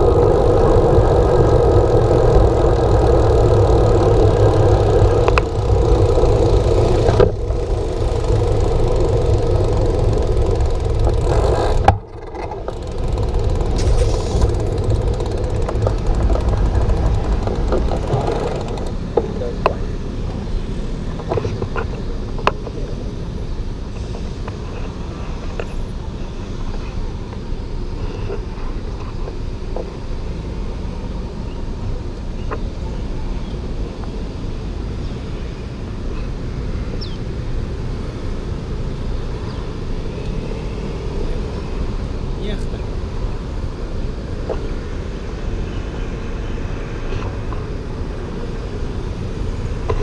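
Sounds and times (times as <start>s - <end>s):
rumble of cars passing: 0.0s - 50.0s.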